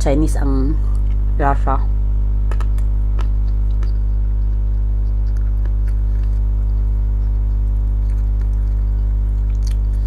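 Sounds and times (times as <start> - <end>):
electrical mains hum: 0.0 - 10.0
person chewing food: 0.8 - 1.4, 2.4 - 10.0.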